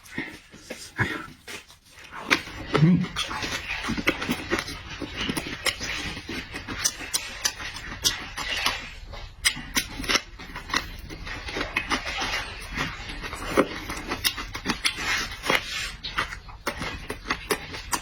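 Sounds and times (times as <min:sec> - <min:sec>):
person chewing and lip-smacking: 0:00.0 - 0:18.0.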